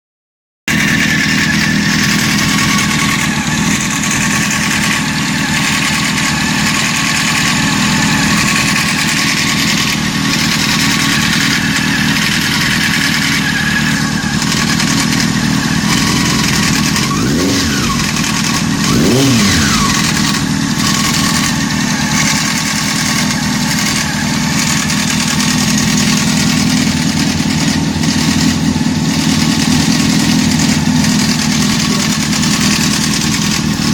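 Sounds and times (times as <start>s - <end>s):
motorcycle engine idling: 0.7s - 33.9s
motorcycle engine revving: 0.7s - 33.9s
timing chain noise: 0.7s - 33.9s.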